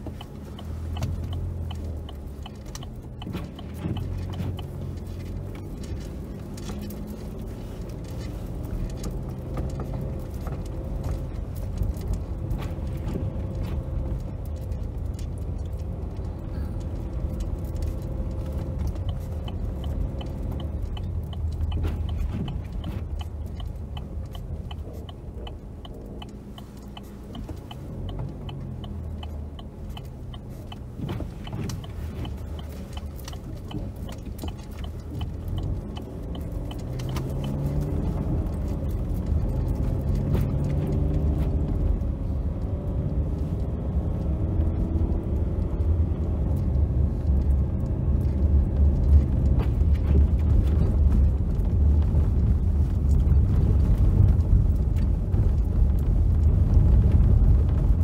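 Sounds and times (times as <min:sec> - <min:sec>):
car engine and tyre noise on snow: 0:00.0 - 0:58.0
turn signal ticking: 0:00.0 - 0:58.0.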